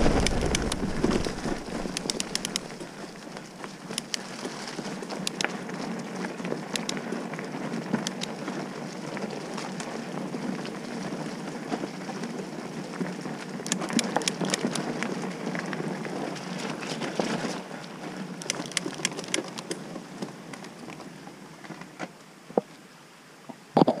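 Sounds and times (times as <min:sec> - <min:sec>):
bike clicks and rattles: 0:00.0 - 0:21.0
bike tyres rumbling on dirt: 0:00.0 - 0:22.2.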